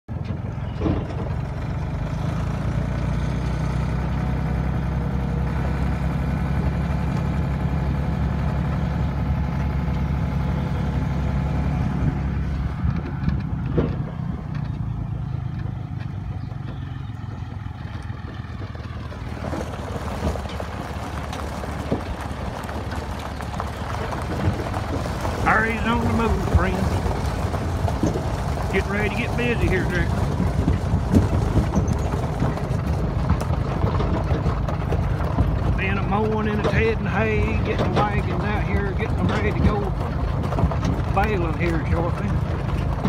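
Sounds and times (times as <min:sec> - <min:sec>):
tractor diesel engine running: 0:00.0 - 0:43.0
tyres crunching on gravel: 0:00.1 - 0:43.0
wagons knocking: 0:00.1 - 0:43.0.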